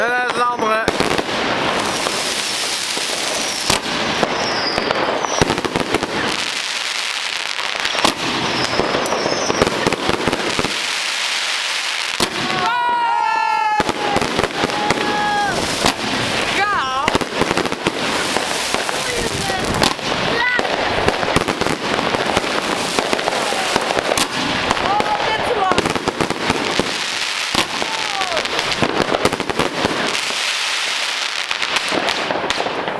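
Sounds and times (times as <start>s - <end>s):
fireworks bangs: 0.0s - 32.9s
fireworks crackling: 0.0s - 32.9s.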